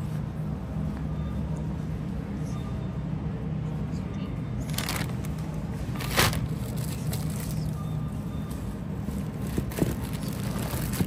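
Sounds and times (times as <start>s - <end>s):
store background hum: 0.0s - 11.0s.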